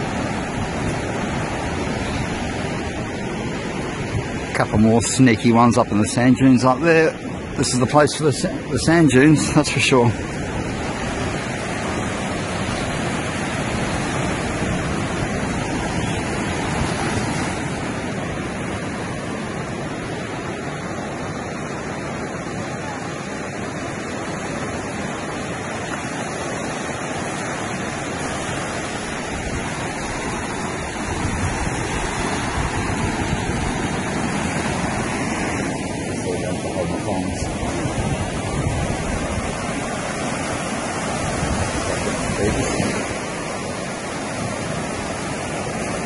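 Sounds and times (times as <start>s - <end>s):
ocean surf on a beach: 0.0s - 46.0s.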